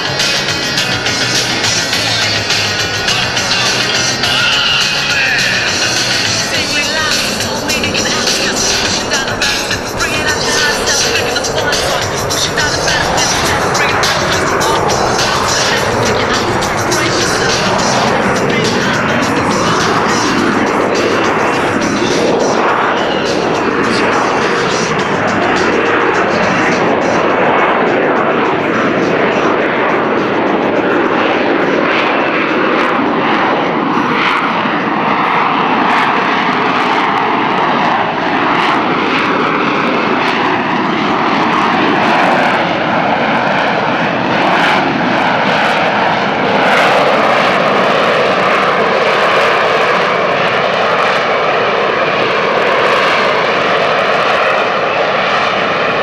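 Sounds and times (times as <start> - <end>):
jet engine roar with whine: 0.0 - 56.0.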